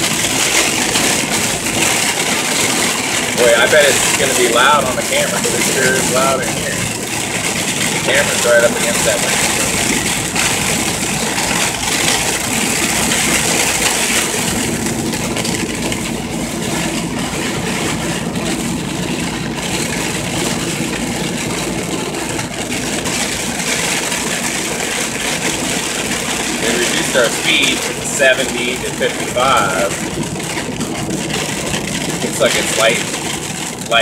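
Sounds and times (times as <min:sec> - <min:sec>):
engine and road noise: 0:00.0 - 0:34.0
sleet rattling on windshield: 0:00.0 - 0:34.0.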